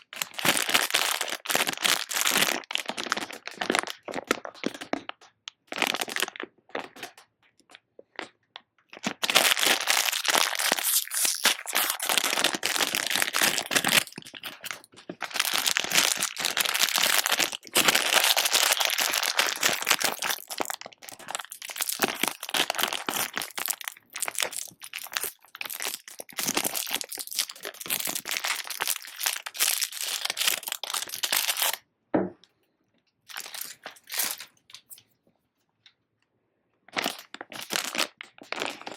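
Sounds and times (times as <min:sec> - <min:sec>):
packaging crinkling and tearing: 0:00.0 - 0:05.1, 0:05.7 - 0:07.2, 0:08.9 - 0:31.8, 0:33.3 - 0:34.9, 0:36.9 - 0:38.9.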